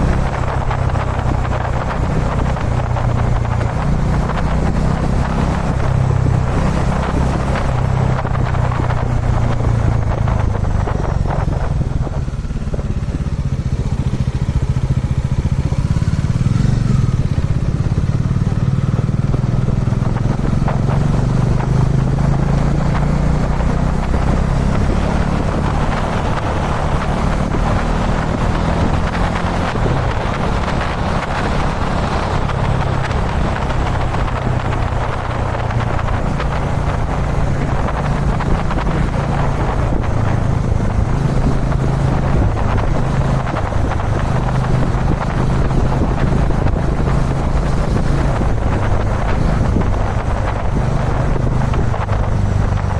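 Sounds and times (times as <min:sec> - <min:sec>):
motorcycle engine cruising: 0:00.0 - 0:52.9
wind noise on microphone: 0:00.0 - 0:52.9.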